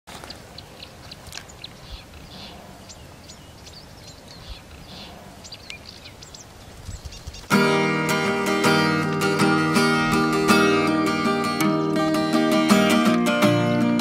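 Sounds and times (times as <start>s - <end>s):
birds chirping: 0.1s - 13.2s
faint outdoor background noise: 0.1s - 14.0s.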